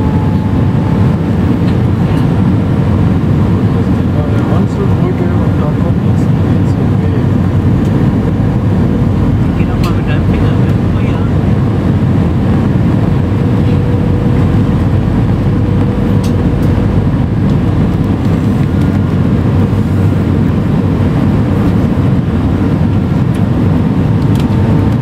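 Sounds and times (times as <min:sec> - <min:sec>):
airplane cabin airflow rush: 0:00.0 - 0:25.0
faint steady hum: 0:00.0 - 0:25.0
jet engines running: 0:00.0 - 0:25.0.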